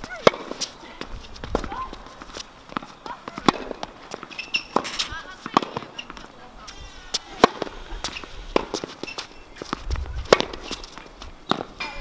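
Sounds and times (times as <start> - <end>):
tennis racket hitting ball: 0.0 - 11.9
tennis ball bouncing: 0.0 - 12.0.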